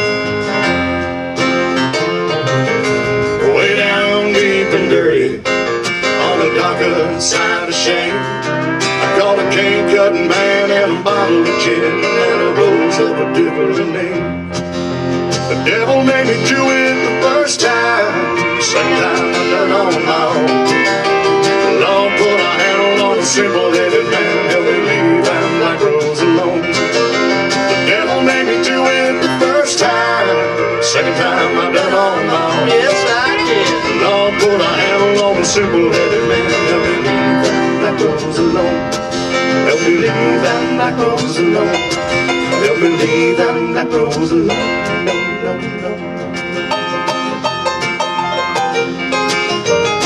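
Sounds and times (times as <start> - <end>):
instrumental country music: 0.0 - 50.0
strummed acoustic guitar: 0.0 - 50.0.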